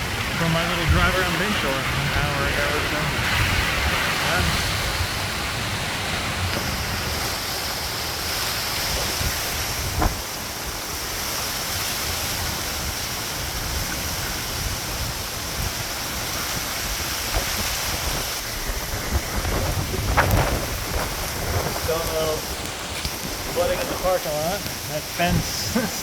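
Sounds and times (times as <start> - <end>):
heavy rain pouring: 0.0 - 26.0
hurricane wind: 0.0 - 26.0
wind buffeting microphone: 0.0 - 26.0.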